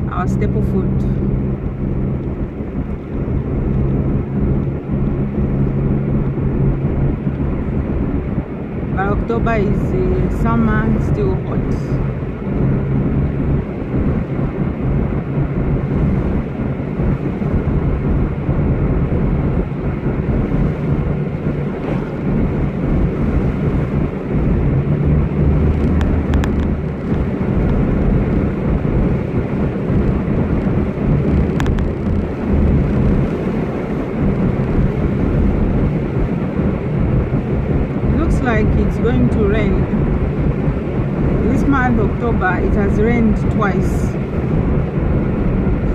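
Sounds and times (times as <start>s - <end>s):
car engine hum: 0.0s - 45.9s
road noise: 0.0s - 45.9s.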